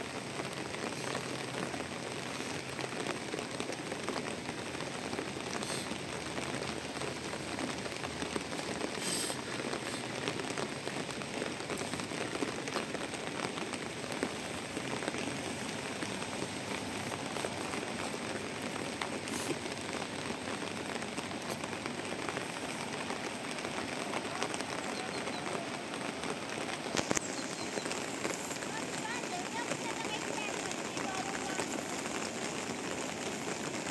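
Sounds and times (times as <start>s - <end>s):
raindrops ticking: 0.0s - 33.9s
steady rain falling: 0.0s - 33.9s.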